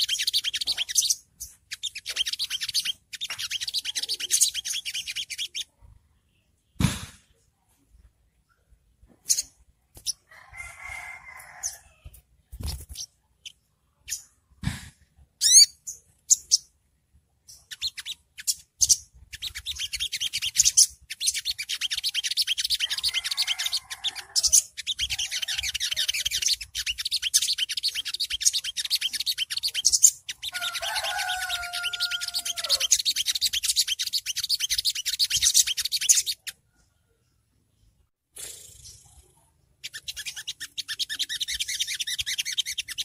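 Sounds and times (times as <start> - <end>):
bird chirps and trills: 0.0 - 6.6, 8.5 - 14.4, 15.4 - 16.8, 17.4 - 37.0, 37.8 - 43.0.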